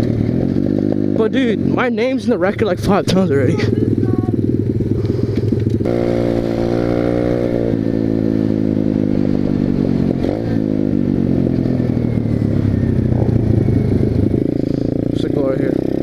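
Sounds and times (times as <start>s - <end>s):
pit bike engines running: 0.0s - 16.0s
higher engine note: 1.6s - 16.0s.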